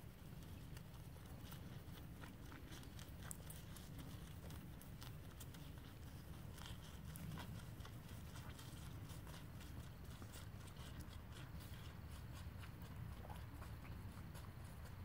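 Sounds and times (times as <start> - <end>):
hoofbeats on dirt: 0.0 - 15.0.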